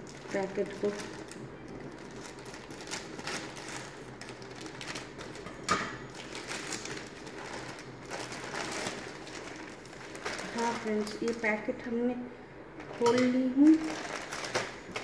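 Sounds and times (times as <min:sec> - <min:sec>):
plastic mailer crinkling: 0:00.0 - 0:11.6, 0:13.6 - 0:15.0.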